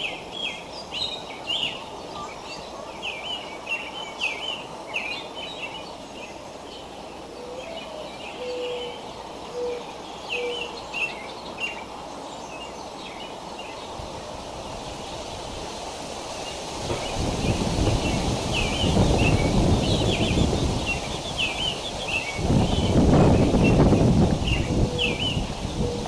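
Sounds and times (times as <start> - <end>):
birds chirping: 0.0 - 26.0
outdoor background hiss: 0.0 - 26.0.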